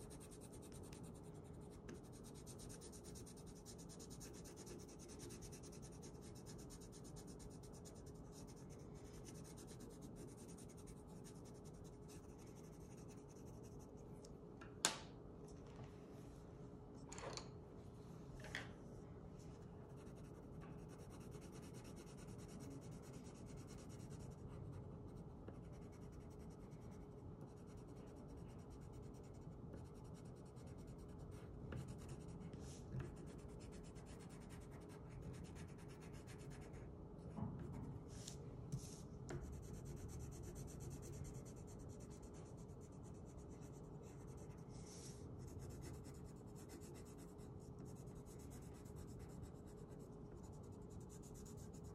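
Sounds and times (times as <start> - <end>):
pencil scratching on paper: 0.0 - 14.0, 19.9 - 36.8, 38.7 - 51.9.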